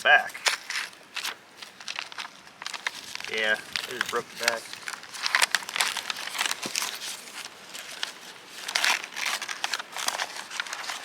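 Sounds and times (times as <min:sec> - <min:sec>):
paper rustling and crinkling: 0:00.2 - 0:11.0.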